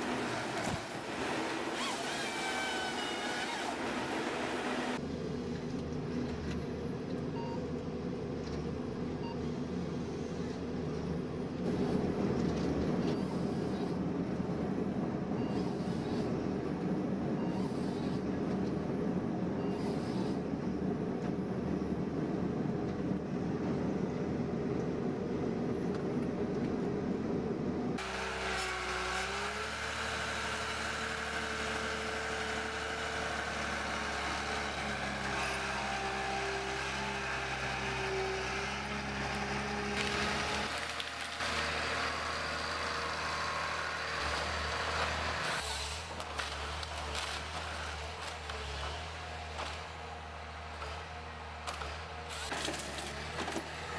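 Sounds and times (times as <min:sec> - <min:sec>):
engine-driven machinery running: 0:00.0 - 0:26.6, 0:27.4 - 0:53.9.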